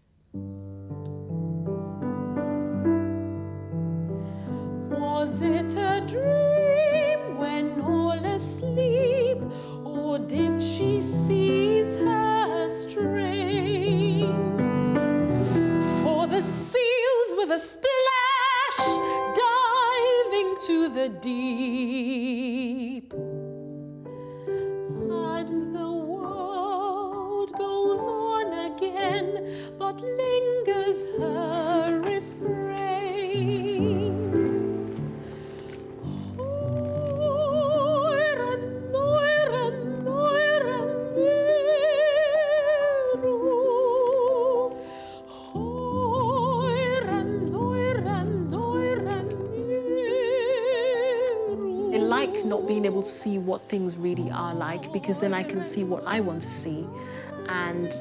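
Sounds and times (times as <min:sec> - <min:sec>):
piano accompaniment: 0:00.0 - 0:58.0
soprano singing opera: 0:04.7 - 0:23.1, 0:24.9 - 0:58.0.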